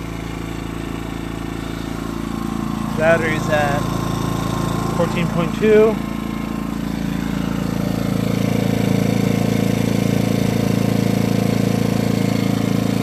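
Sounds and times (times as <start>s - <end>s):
generator engine running: 0.0s - 13.0s.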